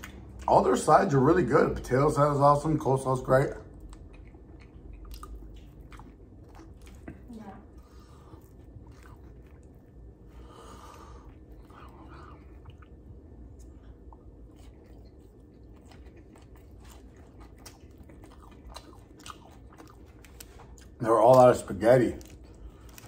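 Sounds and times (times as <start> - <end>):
person chewing food: 0.0 - 1.2, 3.3 - 23.0.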